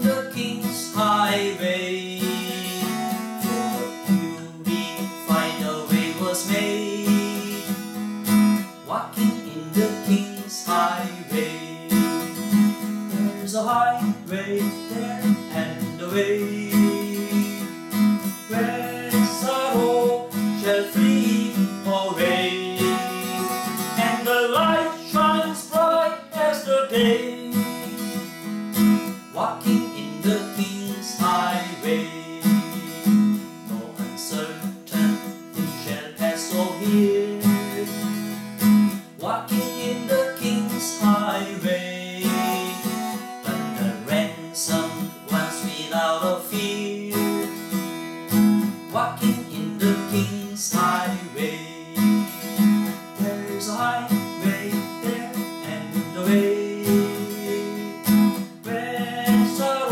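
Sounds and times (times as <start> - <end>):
acoustic guitar strumming hymn: 0.0 - 59.9.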